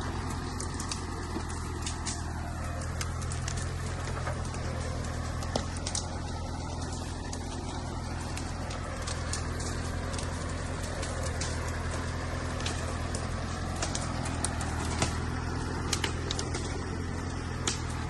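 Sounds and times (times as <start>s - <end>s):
tractor engine humming: 0.0s - 18.0s
sharp clicks and knocks: 3.0s - 18.0s.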